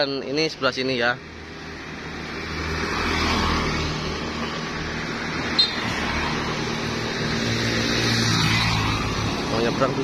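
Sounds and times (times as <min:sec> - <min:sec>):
vehicle passing close by: 0:01.7 - 0:10.0.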